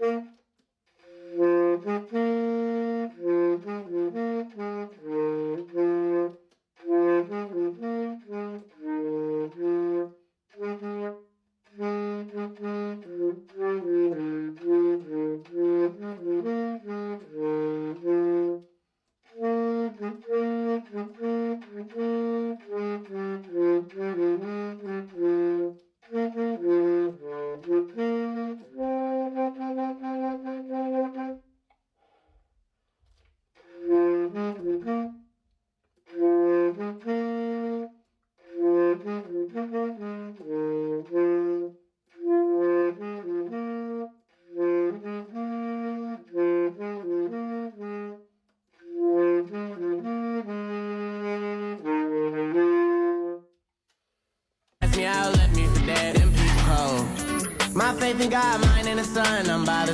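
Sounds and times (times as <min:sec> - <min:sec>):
tenor saxophone melody: 0:00.0 - 0:31.6, 0:33.1 - 0:35.4, 0:36.0 - 0:53.6, 0:54.8 - 0:59.9.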